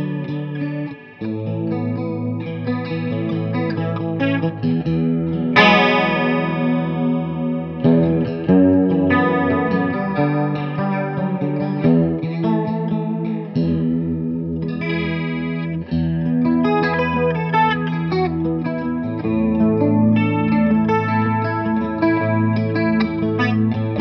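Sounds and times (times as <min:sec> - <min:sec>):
electric guitar with chorus: 0:00.0 - 0:24.0.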